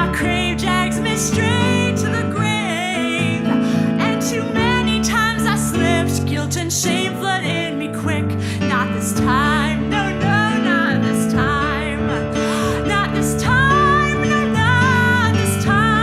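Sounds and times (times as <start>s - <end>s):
person singing with vibrato: 0.0s - 16.0s.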